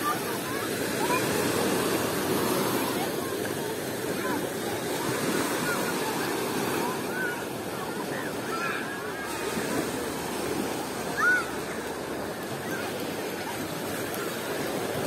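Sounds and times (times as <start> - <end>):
faint distant voices: 0.0 - 15.0
waves washing on beach: 0.0 - 15.0.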